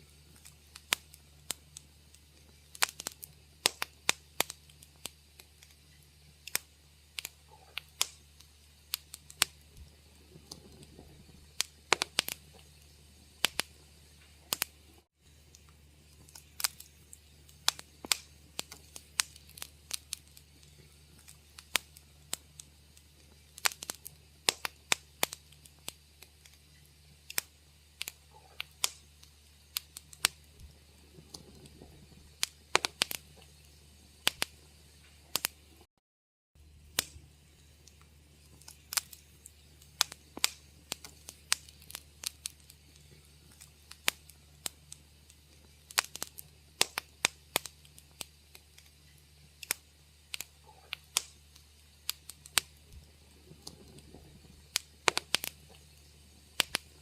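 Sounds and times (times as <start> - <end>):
faint low rumble: 0.0 - 35.9, 36.6 - 57.0
wood fire crackling: 0.0 - 35.9, 36.6 - 57.0.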